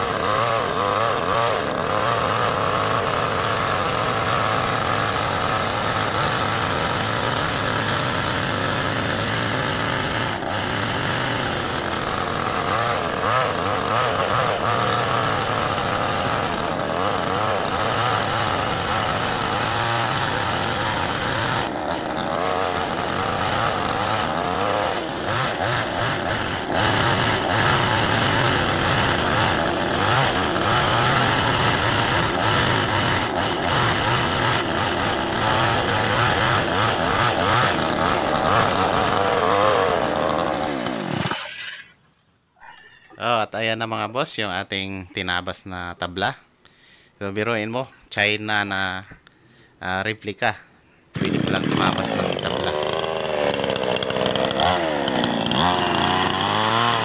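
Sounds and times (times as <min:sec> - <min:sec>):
chainsaw cutting a log: 0:00.0 - 0:42.0, 0:51.1 - 0:57.0.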